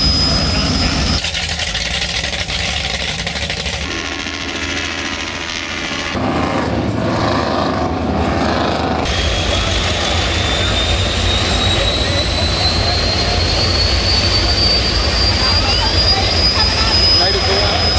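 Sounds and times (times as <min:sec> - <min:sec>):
boat engines passing at speed: 0:00.0 - 0:17.9
boats idling: 0:00.0 - 0:17.9
helicopter passing over: 0:00.0 - 0:17.9.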